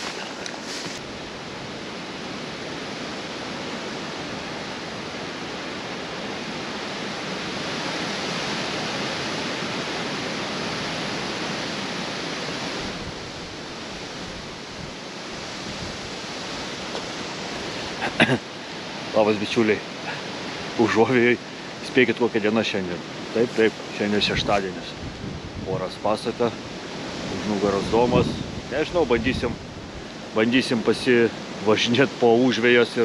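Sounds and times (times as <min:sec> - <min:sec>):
wind gusting: 0:00.0 - 0:31.7.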